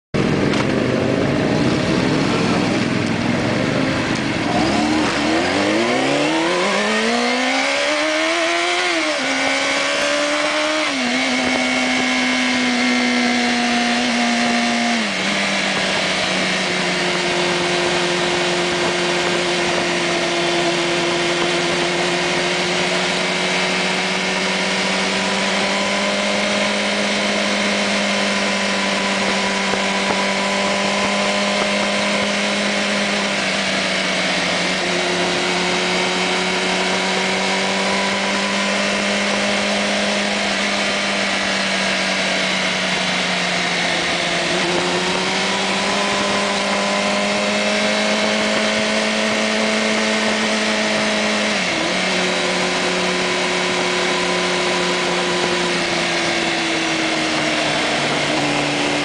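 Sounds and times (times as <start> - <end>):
motorcycle engine accelerating and upshifting: 0.0 - 59.0.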